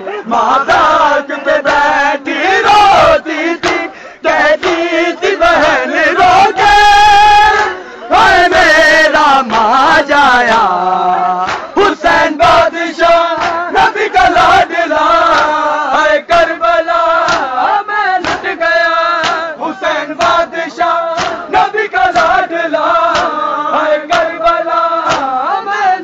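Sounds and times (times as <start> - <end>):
men chanting in unison: 0.0 - 26.0
hands slapping chests: 1.6 - 6.8, 7.5 - 7.8, 8.6 - 25.5.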